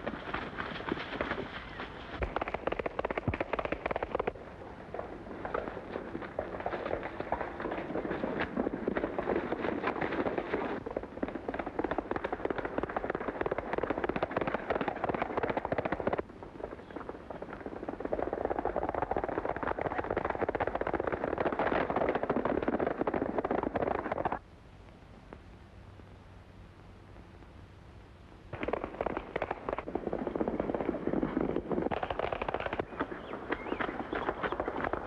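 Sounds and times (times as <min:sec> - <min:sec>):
horse hooves galloping: 0:00.0 - 0:24.4, 0:28.6 - 0:35.0.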